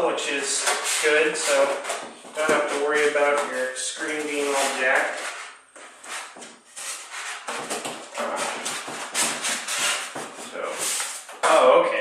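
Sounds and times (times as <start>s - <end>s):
packaging rubbing and scraping: 0.4s - 11.3s.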